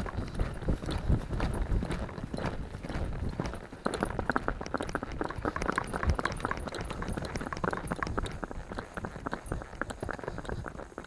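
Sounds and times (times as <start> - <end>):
horse hoofbeats and tack: 0.0 - 11.0.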